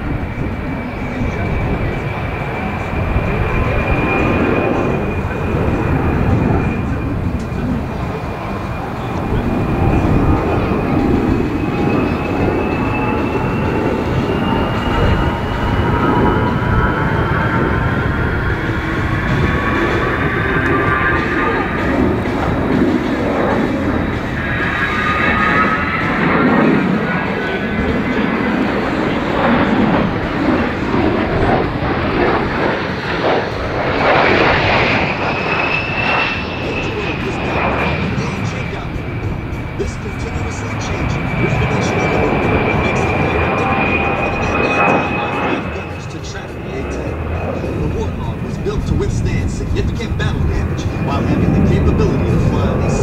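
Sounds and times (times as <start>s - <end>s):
jet engine rumble with fan whine: 0.0s - 53.0s.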